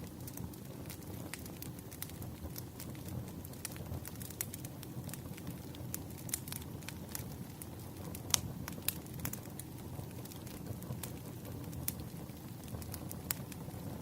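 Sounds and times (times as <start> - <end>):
bonfire crackling and popping: 0.0 - 14.0
low rumble of flames: 0.0 - 14.0.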